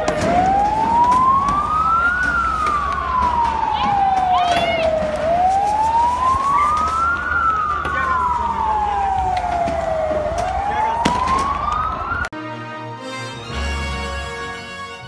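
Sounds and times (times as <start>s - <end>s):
sharp cracks: 0.0s - 12.3s
police siren wailing: 0.0s - 12.4s.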